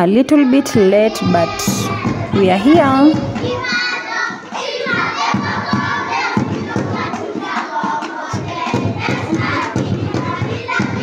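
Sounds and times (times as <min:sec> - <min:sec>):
children shouting: 0:00.3 - 0:11.0.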